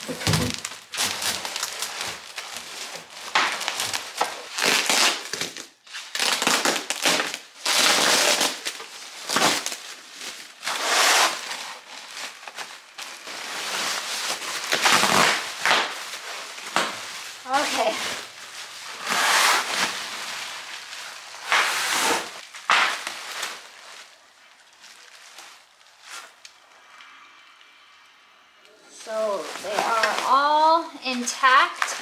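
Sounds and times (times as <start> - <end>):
bubble wrap rustling and crinkling: 0.0 - 27.7, 28.9 - 32.0.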